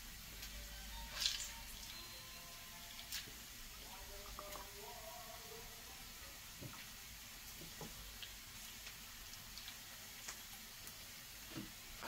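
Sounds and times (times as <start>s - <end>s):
juice dripping into a dish: 0.2s - 12.0s.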